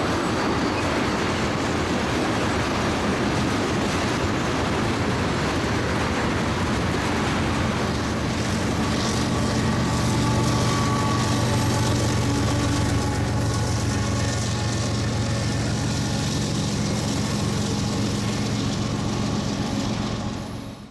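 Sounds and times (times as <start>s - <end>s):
diesel locomotive engine drone: 0.0s - 20.9s.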